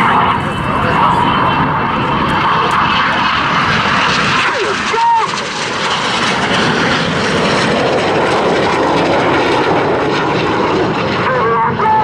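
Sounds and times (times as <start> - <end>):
jet noise: 0.0 - 12.0.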